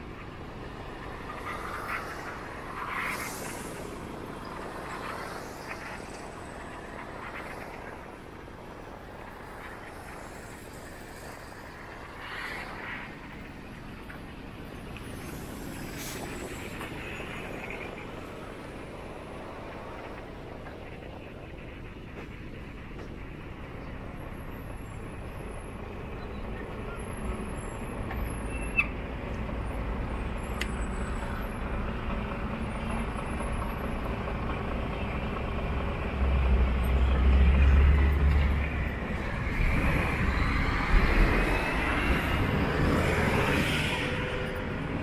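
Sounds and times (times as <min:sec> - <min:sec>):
heavy vehicle rumble: 0:00.0 - 0:45.0
vehicle passing with tyre noise: 0:00.0 - 0:45.0
vehicles passing: 0:00.0 - 0:45.0.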